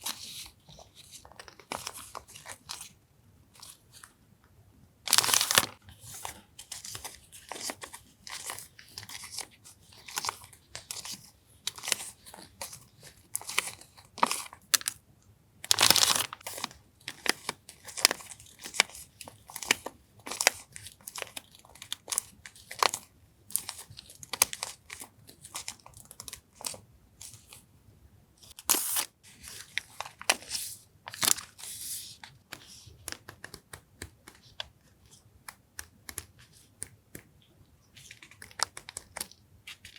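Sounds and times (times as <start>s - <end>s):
paper crinkling and rustling: 0.0s - 4.1s, 5.1s - 15.0s, 15.6s - 27.6s, 28.4s - 37.2s, 37.8s - 39.9s.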